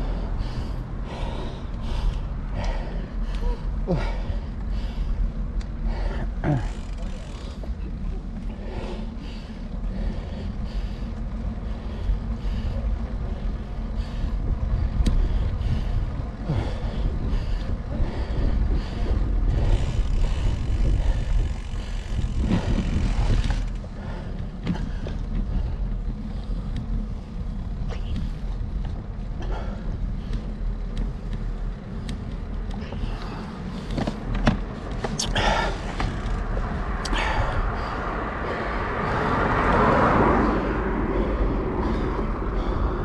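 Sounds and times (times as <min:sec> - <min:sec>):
road noise: 0:00.0 - 0:43.0
wind buffeting microphone: 0:07.6 - 0:43.0.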